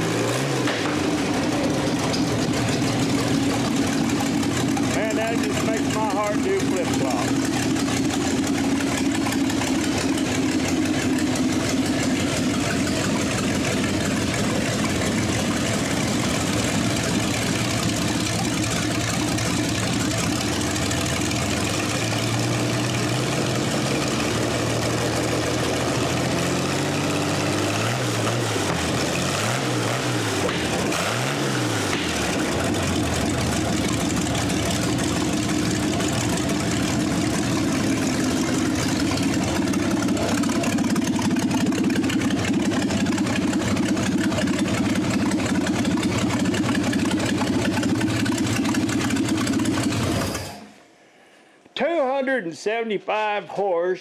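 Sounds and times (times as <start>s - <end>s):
truck engine idling and revving: 0.0s - 50.8s.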